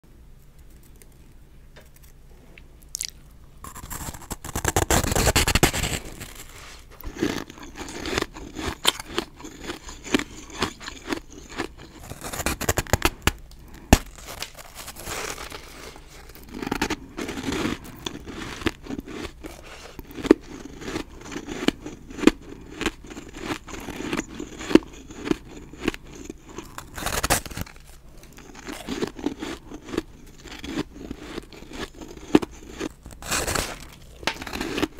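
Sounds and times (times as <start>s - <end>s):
chewing: 2.9s - 4.8s, 6.1s - 13.8s, 14.5s - 34.9s.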